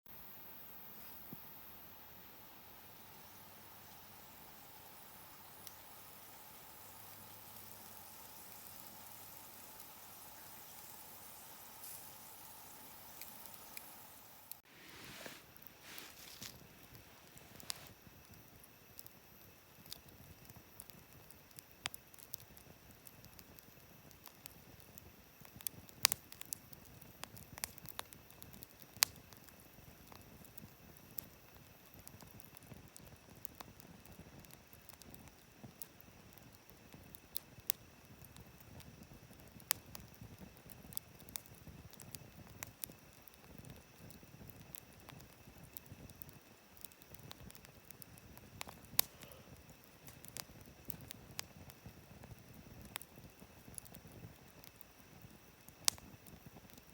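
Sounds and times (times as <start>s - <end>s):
soft hiss of burning: 0.1s - 56.9s
campfire crackling and popping: 0.2s - 56.9s.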